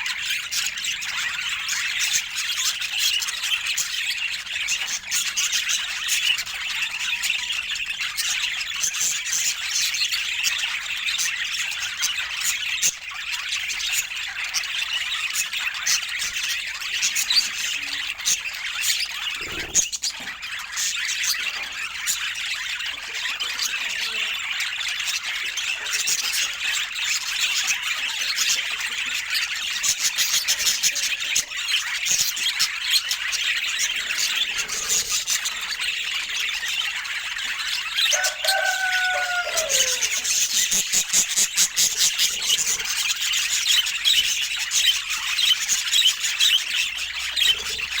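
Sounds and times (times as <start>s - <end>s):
budgies chirping and warbling: 0.0s - 48.0s.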